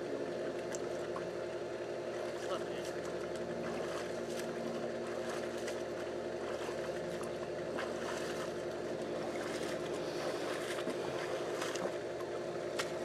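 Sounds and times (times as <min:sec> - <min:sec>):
low mechanical hum: 0:00.0 - 0:13.0
pool water splashing: 0:00.0 - 0:13.0.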